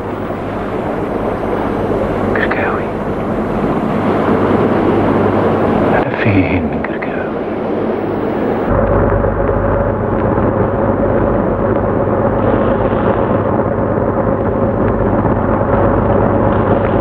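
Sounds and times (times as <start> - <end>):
loud steady rumbling: 0.0 - 17.0.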